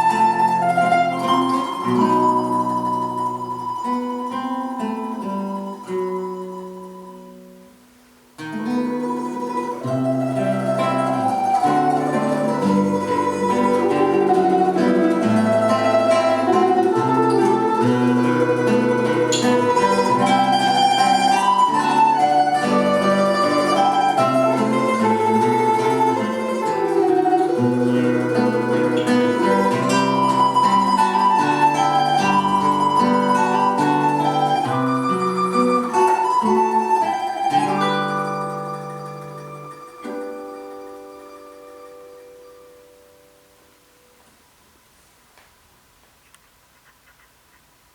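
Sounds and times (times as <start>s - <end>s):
plucked string duet: 0.0s - 44.1s.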